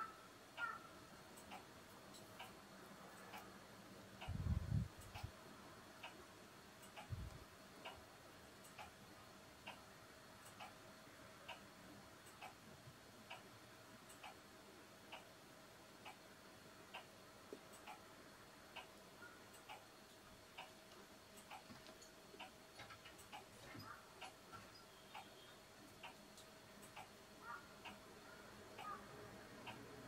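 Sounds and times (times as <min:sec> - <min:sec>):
clock ticking: 0:00.0 - 0:30.0
low room hum: 0:00.0 - 0:30.0.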